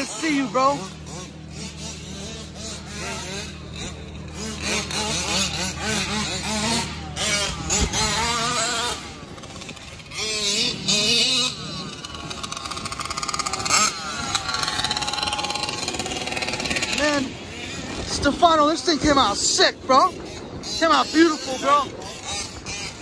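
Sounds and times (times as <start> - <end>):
small two-stroke engines revving: 0.0 - 23.0
steady low hum: 0.0 - 23.0.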